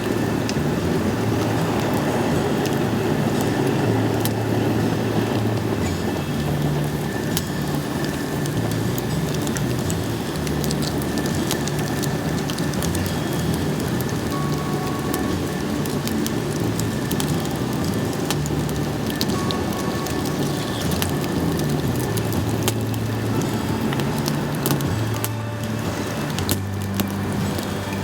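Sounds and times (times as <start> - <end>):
fire burning with crackles: 0.0 - 28.0.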